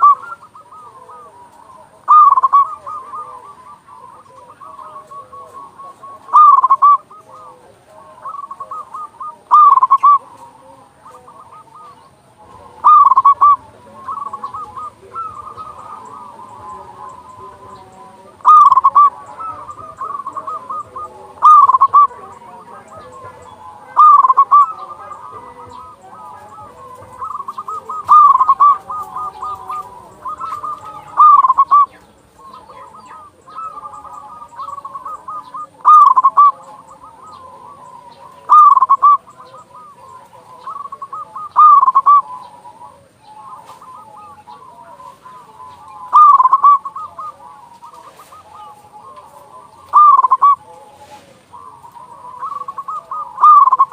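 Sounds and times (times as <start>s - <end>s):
doves cooing: 0.0s - 53.9s.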